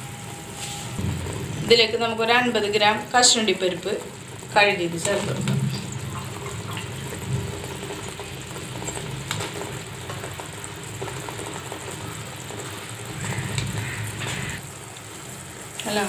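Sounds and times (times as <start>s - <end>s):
syrup bubbling and sizzling in pan: 0.6s - 16.0s.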